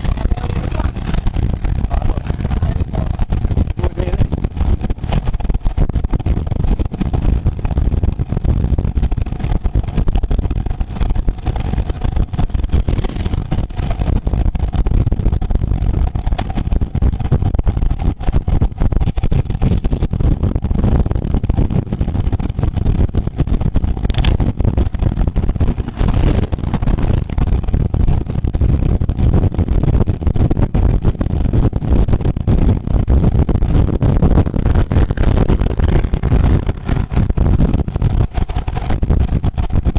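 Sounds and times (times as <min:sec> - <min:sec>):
gusty wind on microphone: 0:00.0 - 0:39.9
road noise: 0:00.0 - 0:39.9.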